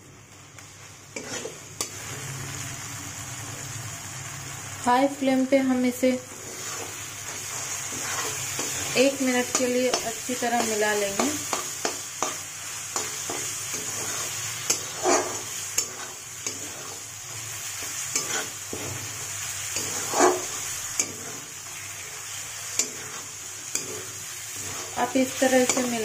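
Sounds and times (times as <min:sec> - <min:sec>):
paste sizzling in oil: 0:00.0 - 0:26.0
metal spatula scraping a pan: 0:01.1 - 0:02.4, 0:06.3 - 0:26.0.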